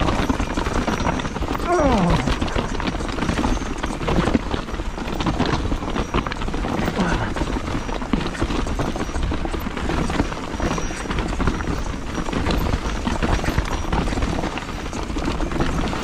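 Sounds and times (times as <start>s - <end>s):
bike frame rattling: 0.0s - 16.0s
tyres crunching over rocks: 0.0s - 16.0s
wind rumbling on microphone: 0.0s - 16.0s.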